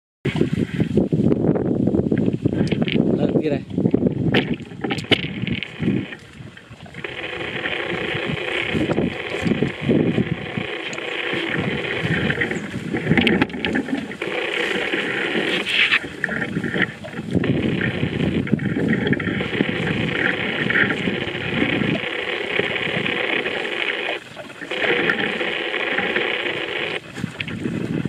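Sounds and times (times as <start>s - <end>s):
grass being torn and chewed: 3.9s - 28.0s.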